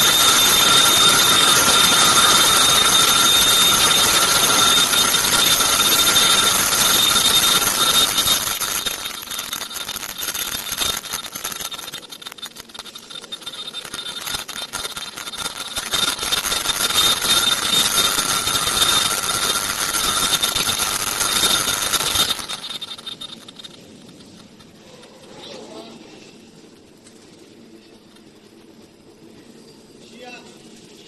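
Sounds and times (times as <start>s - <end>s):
machine hissing and whining: 0.0s - 31.0s.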